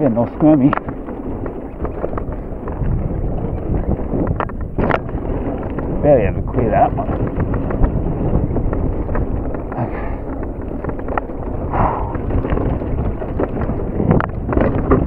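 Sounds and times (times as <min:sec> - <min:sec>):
bike chain and frame rattling: 0:00.0 - 0:15.0
bike tyres rumbling on dirt: 0:00.0 - 0:15.0
wind buffeting microphone: 0:00.0 - 0:15.0.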